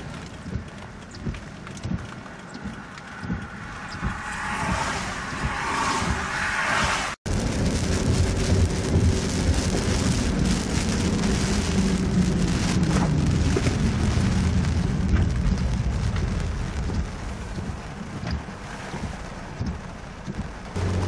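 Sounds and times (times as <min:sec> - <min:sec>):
rain on car windshield: 0:00.0 - 0:21.0
road noise: 0:00.0 - 0:21.0
storm wind rumble: 0:00.0 - 0:21.0.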